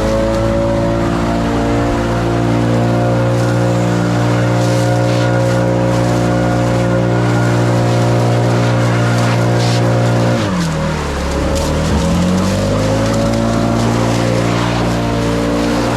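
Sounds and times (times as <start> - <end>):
small engine running: 0.0 - 15.9.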